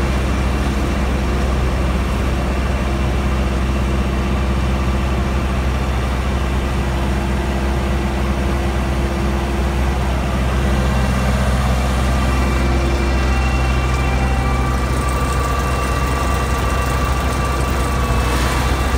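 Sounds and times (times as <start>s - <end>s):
diesel farm machinery droning: 0.0s - 18.9s.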